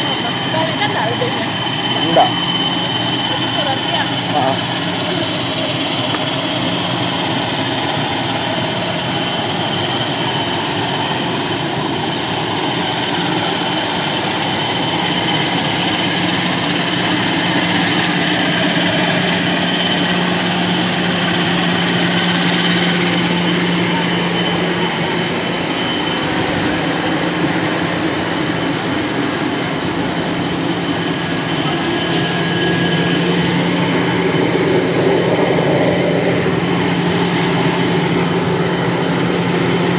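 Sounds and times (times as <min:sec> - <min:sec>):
high turbine whine: 0:00.0 - 0:39.9
turbine engine humming: 0:00.0 - 0:39.9.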